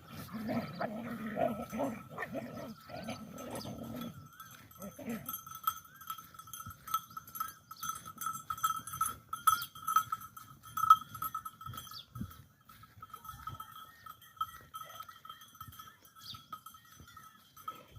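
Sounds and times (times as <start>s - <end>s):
goat bells ringing: 0.0s - 17.9s.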